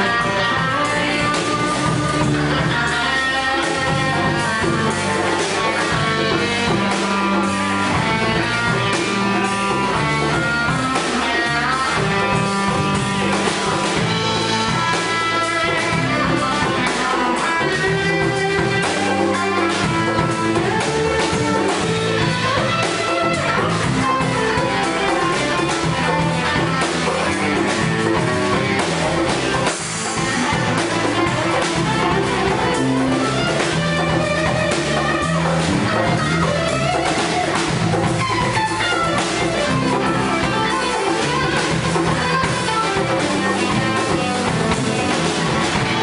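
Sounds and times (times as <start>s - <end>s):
bass guitar: 0.0s - 46.0s
drum kit: 0.0s - 46.0s
electric guitar: 0.0s - 46.0s.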